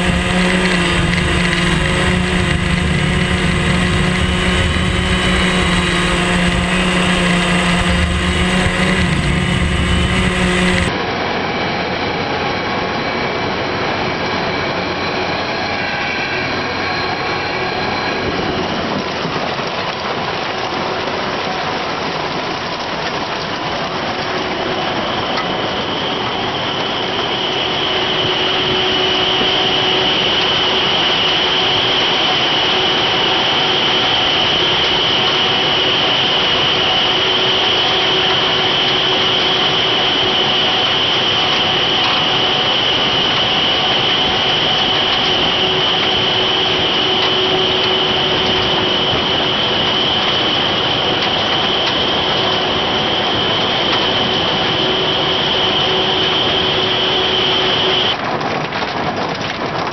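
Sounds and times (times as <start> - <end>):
machine hum with held tones: 0.0 - 19.4, 23.4 - 58.2
potato harvester running: 0.0 - 59.9.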